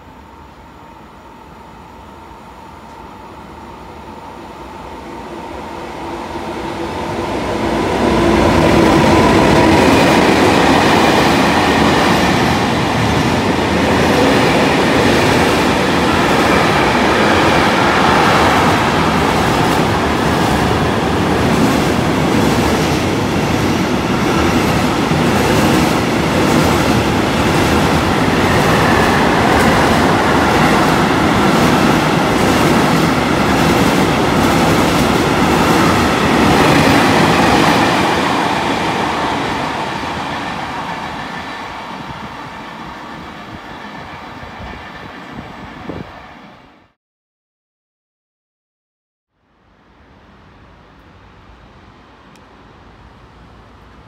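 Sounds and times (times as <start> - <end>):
freight train rumbling past: 0.0 - 46.8.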